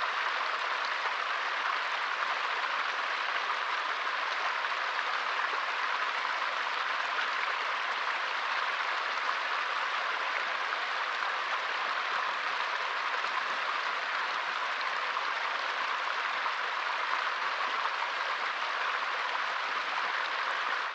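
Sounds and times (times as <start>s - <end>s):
stream water rushing: 0.0s - 20.9s.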